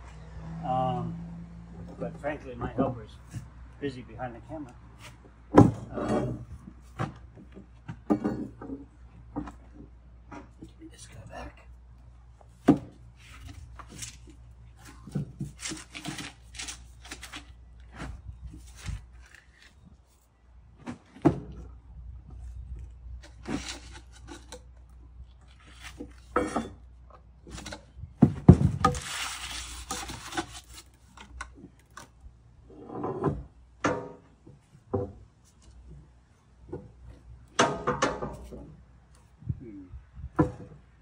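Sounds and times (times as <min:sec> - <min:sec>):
wooden logs knocking and scraping: 0:05.0 - 0:11.2, 0:12.3 - 0:39.6, 0:40.2 - 0:41.0.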